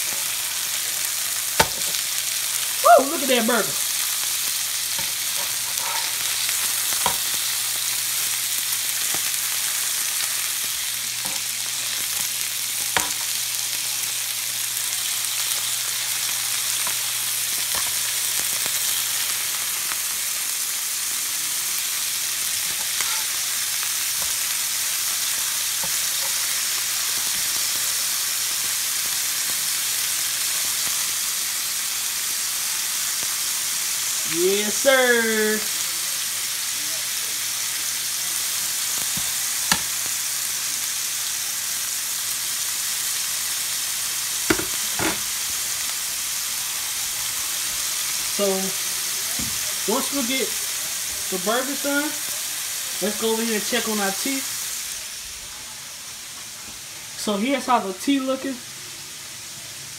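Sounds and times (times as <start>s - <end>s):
patties sizzling in skillet: 0.0s - 59.9s.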